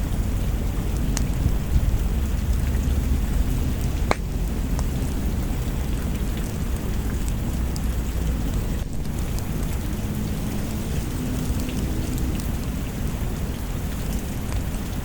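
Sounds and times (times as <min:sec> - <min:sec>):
low thunder rumble: 0:00.0 - 0:14.5
rain falling: 0:00.0 - 0:15.0.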